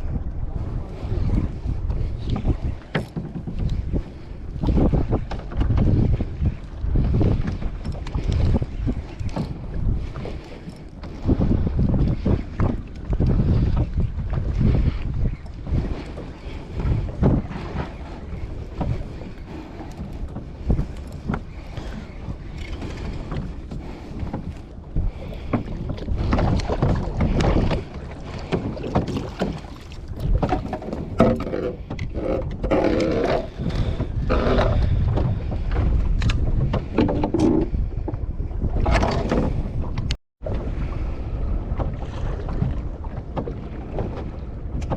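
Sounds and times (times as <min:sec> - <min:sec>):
small boat rocking: 0:00.0 - 0:44.9
water splashing against hull: 0:00.0 - 0:44.9
wind buffeting microphone: 0:00.0 - 0:44.9.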